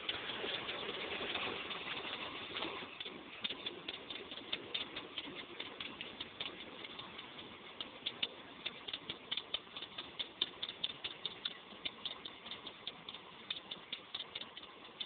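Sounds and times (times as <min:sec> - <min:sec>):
tractor engine ticking: 0:00.0 - 0:15.0.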